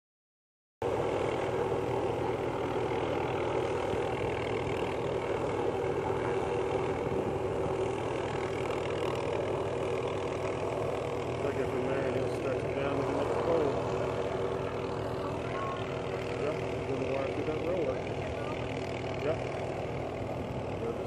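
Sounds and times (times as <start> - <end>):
helicopter engine and rotor drone: 0.8 - 21.0.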